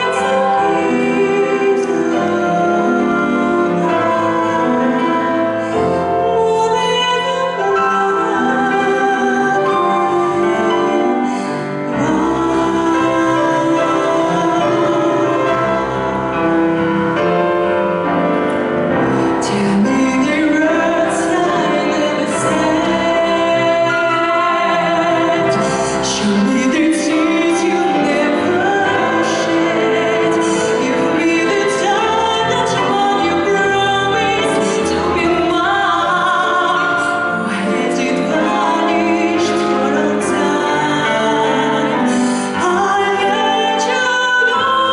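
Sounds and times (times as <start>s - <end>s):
woman singing: 0.0s - 16.8s, 19.0s - 44.9s
grand piano accompaniment: 0.0s - 44.9s.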